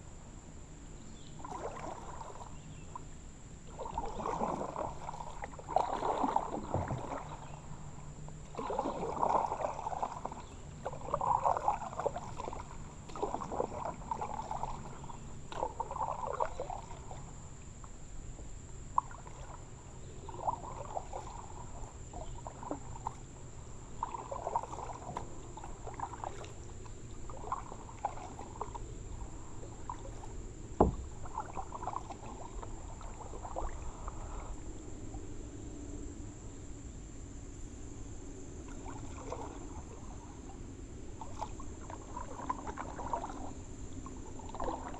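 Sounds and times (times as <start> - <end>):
kayak paddle splashing in water: 1.1 - 35.9, 38.6 - 44.9.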